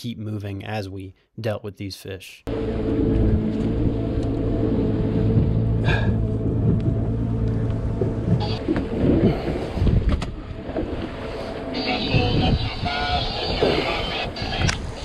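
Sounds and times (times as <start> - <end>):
boat engine running: 2.5 - 15.0
water noise: 2.5 - 15.0
wind rumbling on microphone: 2.8 - 15.0.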